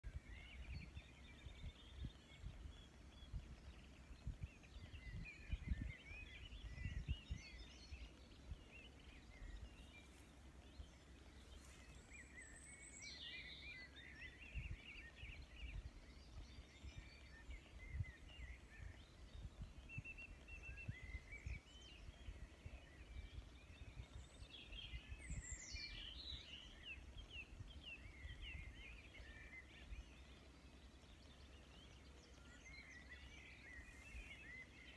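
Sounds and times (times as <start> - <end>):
wind buffeting the microphone: 0.0 - 31.5
birds chirping and twittering: 0.0 - 34.9.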